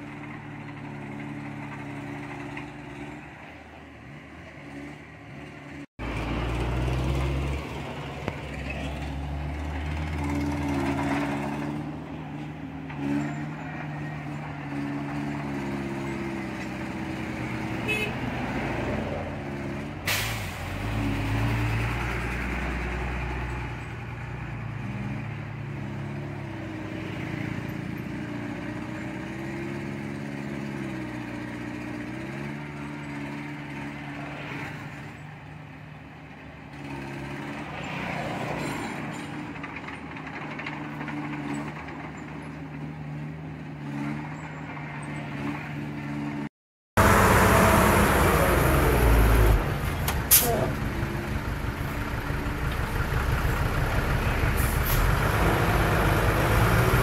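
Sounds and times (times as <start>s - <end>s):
diesel engine working: 0.0s - 37.8s, 38.5s - 57.0s.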